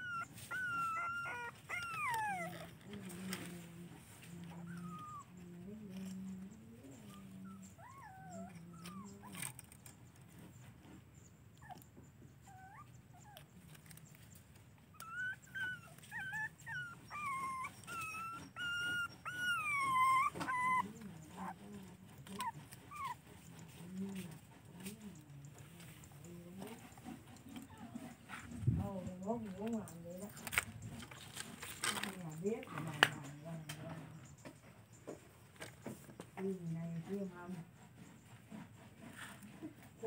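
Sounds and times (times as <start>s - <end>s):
puppy whining: 0.0s - 34.6s.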